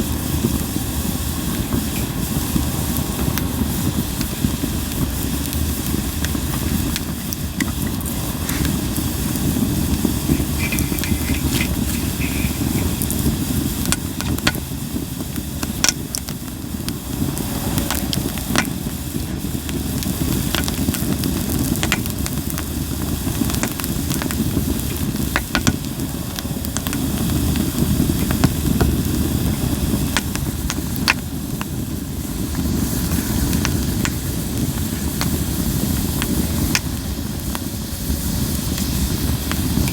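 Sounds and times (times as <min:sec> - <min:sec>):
campfire flames rushing: 0:00.0 - 0:39.9
fire crackles and pops: 0:00.0 - 0:39.9.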